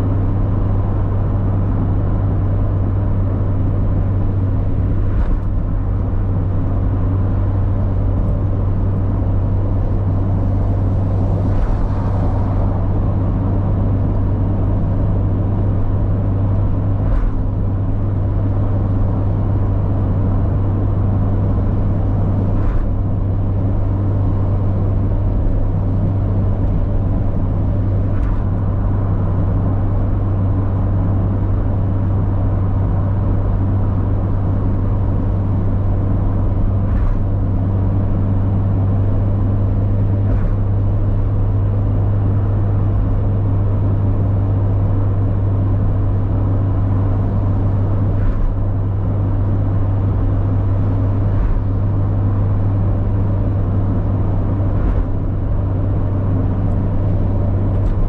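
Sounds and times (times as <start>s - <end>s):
car engine running steadily: 0.0s - 58.0s
tyre and road noise: 0.0s - 58.0s.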